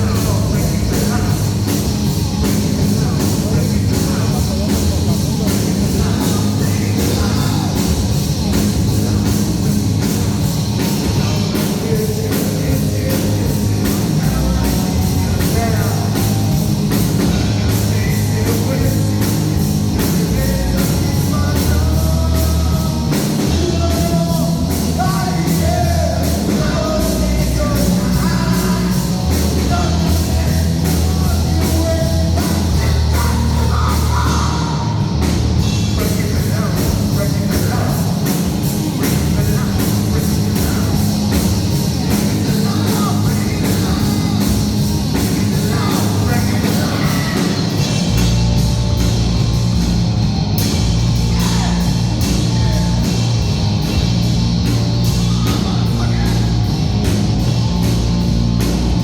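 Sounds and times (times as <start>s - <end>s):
driving drum beat: 0.0s - 59.0s
heavy metal music with singing: 0.0s - 59.0s.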